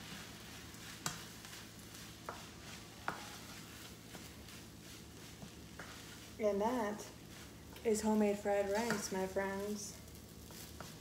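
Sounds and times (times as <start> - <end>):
rice sizzling in a frying pan: 0.0 - 11.0.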